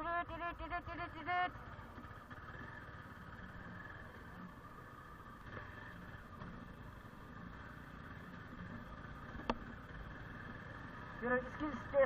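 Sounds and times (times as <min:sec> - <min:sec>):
motorcycle engine humming: 0:00.0 - 0:12.0.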